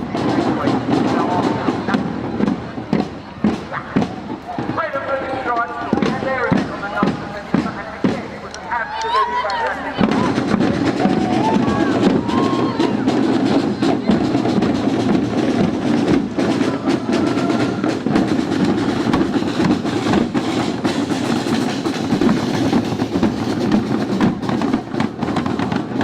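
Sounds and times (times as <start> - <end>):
marching drum band: 0.0 - 26.0
snare drums rattling: 0.0 - 26.0.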